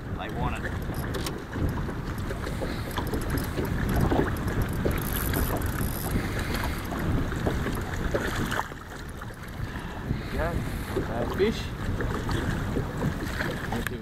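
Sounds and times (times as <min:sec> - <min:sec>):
waves lapping against boat hull: 0:00.0 - 0:14.0
wind buffeting microphone: 0:00.0 - 0:14.0.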